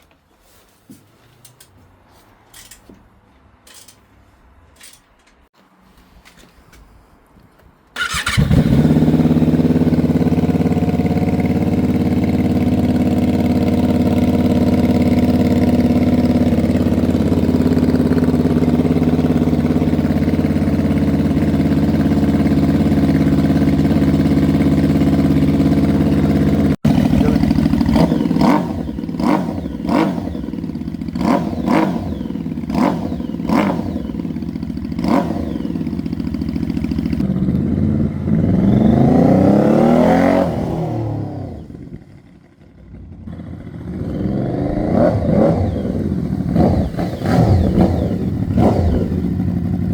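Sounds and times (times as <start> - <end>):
motorcycle engine starting and idling: 7.9 - 49.9
motorcycle throttle blips: 8.0 - 49.9.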